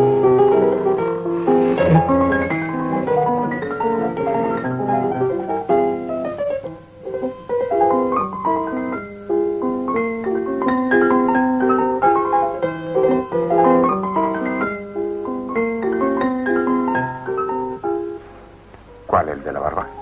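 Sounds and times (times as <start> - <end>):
piano playing brisk passage: 0.0 - 18.2, 18.9 - 20.0.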